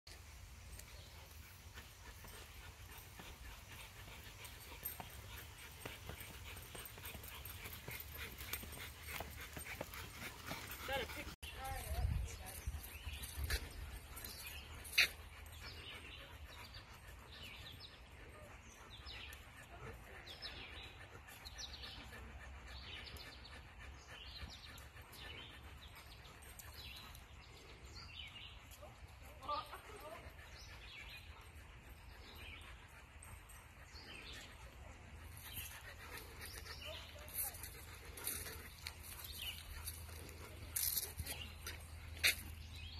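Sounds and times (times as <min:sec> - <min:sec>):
songbird singing: 0:00.1 - 0:42.9.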